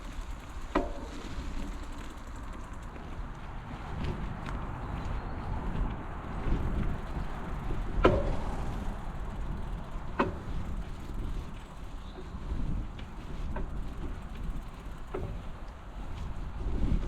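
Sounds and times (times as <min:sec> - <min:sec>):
bicycle clacking as it jolts: 0:00.0 - 0:17.0
bicycle tyres and wind rumble: 0:00.0 - 0:17.0.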